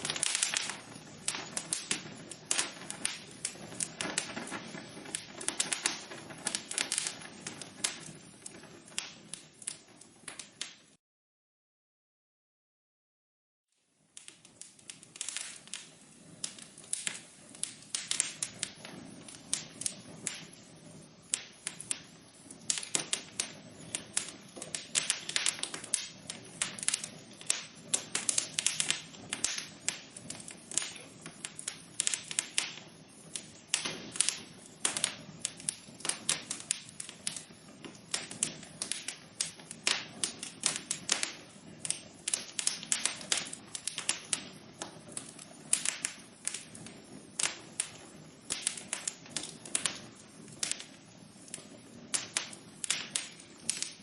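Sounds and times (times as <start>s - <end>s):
low steady hiss: 0.0s - 10.6s, 13.8s - 54.0s
wood fire crackling: 0.0s - 11.0s, 13.8s - 54.0s.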